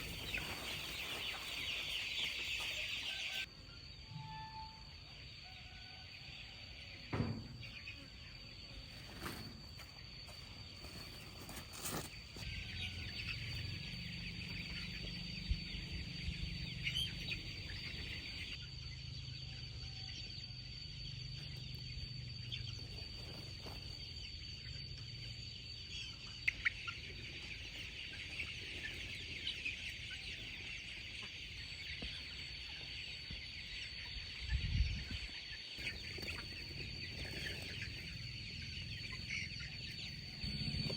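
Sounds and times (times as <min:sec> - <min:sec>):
chickens clucking: 0:00.0 - 0:03.6, 0:05.0 - 0:18.7, 0:22.4 - 0:40.9.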